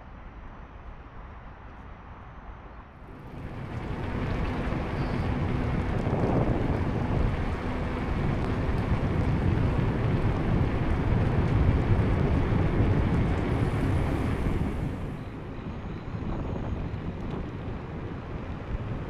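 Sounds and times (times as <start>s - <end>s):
wind buffeting microphone: 3.0s - 19.0s.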